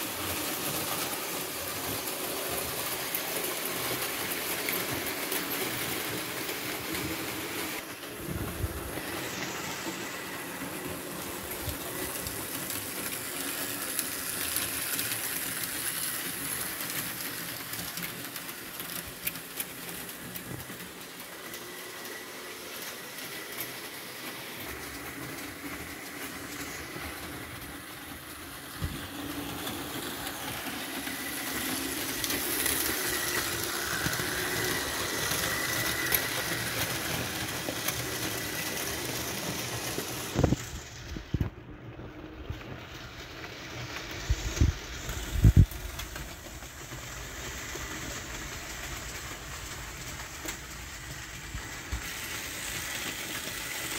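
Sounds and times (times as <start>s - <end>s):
model train running: 0.0s - 53.9s.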